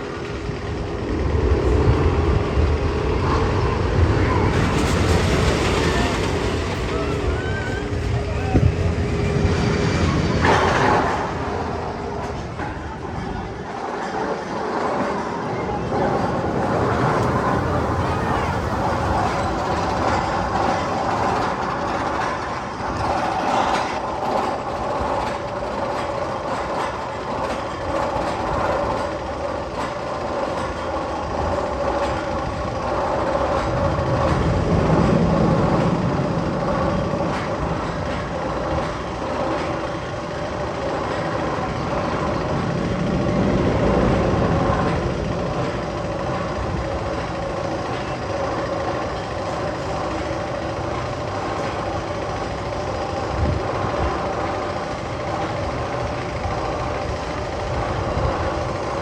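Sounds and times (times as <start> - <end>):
roller coaster rumbling on track: 0.0 - 59.0.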